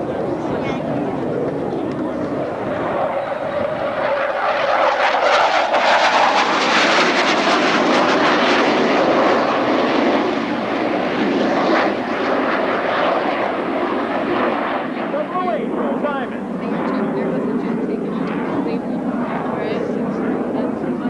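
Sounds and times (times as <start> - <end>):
jet engines roaring past: 0.0 - 21.0.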